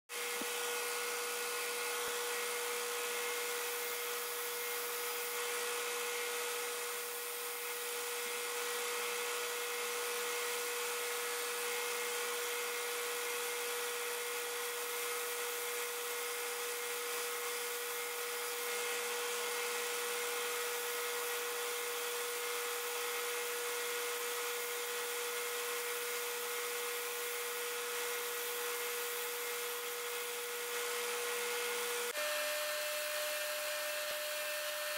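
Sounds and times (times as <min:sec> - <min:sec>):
power tool shaping wood: 0:00.1 - 0:34.9.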